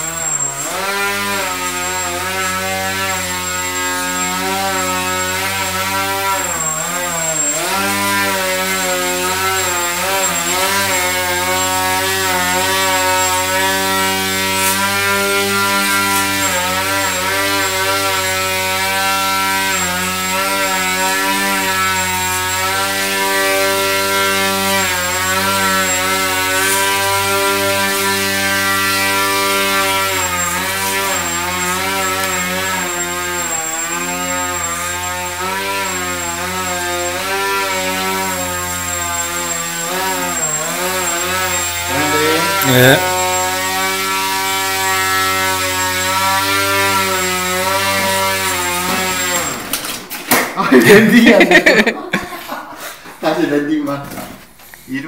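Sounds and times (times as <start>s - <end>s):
model airplane motor whining: 0.0s - 50.0s.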